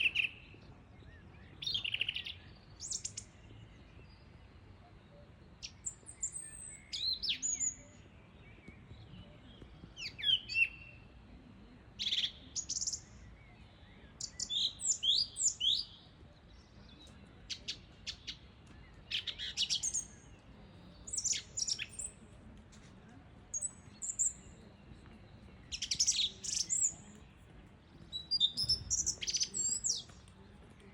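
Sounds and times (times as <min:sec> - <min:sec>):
song thrush singing: 0:00.0 - 0:30.9.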